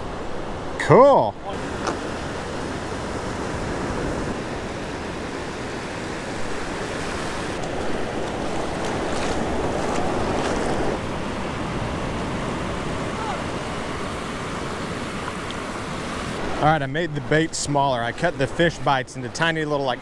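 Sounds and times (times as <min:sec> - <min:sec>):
surf washing up beach: 0:00.0 - 0:20.0.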